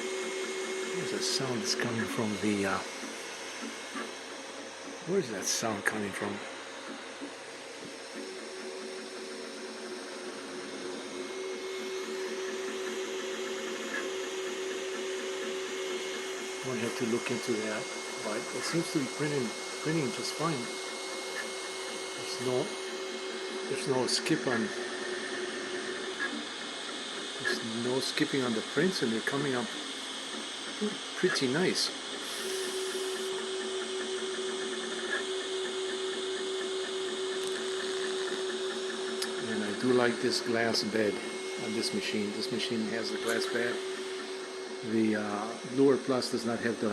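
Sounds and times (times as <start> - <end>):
stepper motors humming: 0.0 - 46.9.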